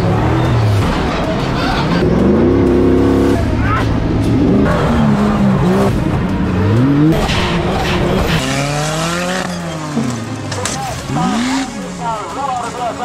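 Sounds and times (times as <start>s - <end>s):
off-road engines revving: 0.0s - 13.0s.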